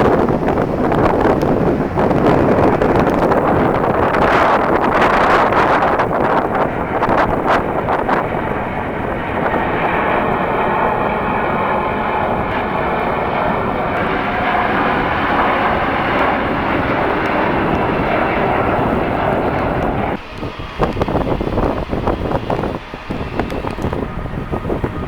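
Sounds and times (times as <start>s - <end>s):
airliner engines roaring: 0.0s - 25.0s
faint engine whine: 0.0s - 25.0s
wind buffeting microphone: 0.0s - 25.0s.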